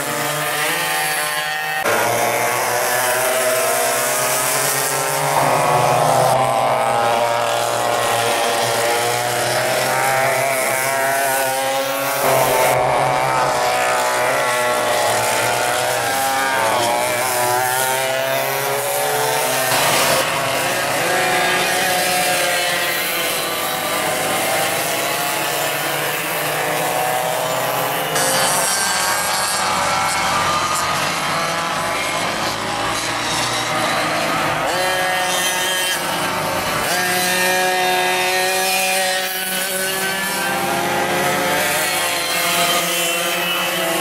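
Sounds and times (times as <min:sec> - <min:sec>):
go-kart engines at high revs: 0:00.0 - 0:44.0.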